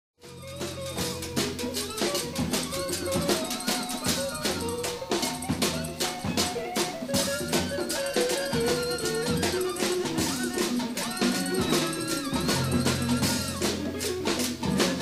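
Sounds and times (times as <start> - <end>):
busy drums: 0.2 - 15.0
hand percussion: 0.3 - 15.0
held horn or organ notes: 0.3 - 15.0.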